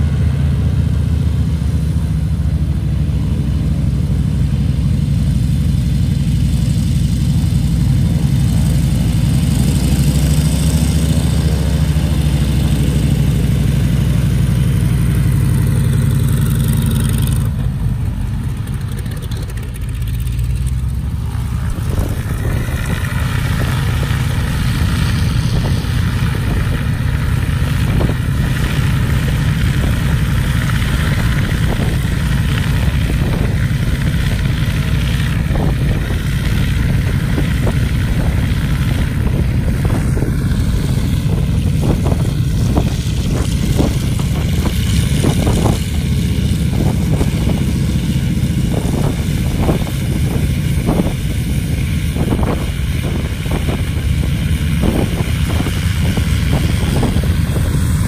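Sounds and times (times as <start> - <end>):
aircraft engine droning: 0.0 - 58.0.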